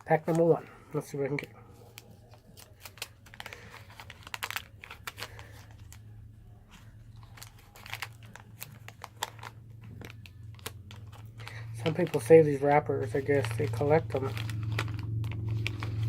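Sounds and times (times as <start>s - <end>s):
faint electrical hum: 0.0s - 16.0s
wax paper wrapper tearing and crinkling: 0.0s - 16.0s.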